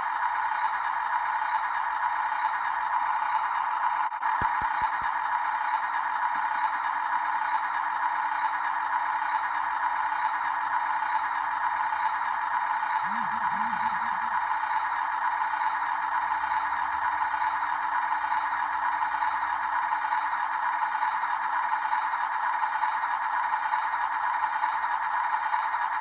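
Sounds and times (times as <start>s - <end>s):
toy truck motors whirring: 0.0s - 26.0s.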